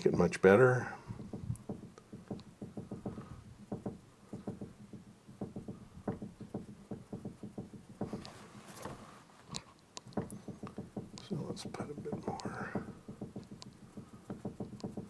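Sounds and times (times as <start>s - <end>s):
paintbrush dabbing on wall: 0.0s - 15.0s
scratchy brushing: 1.1s - 15.0s.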